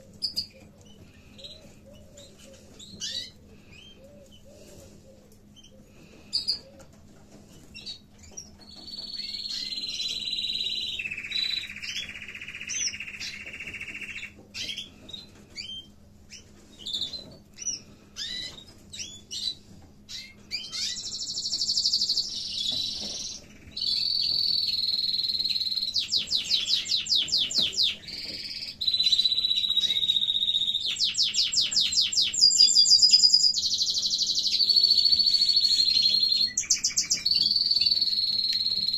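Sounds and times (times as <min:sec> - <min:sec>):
canary trilling: 0:07.7 - 0:38.9.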